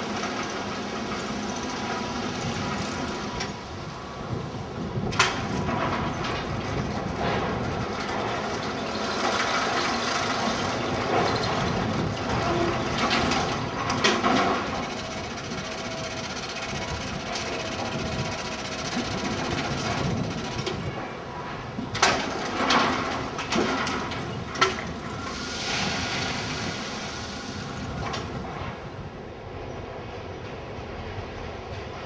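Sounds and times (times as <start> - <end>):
train clanks and knocks: 0.0 - 32.0
train rumbling: 0.0 - 32.0.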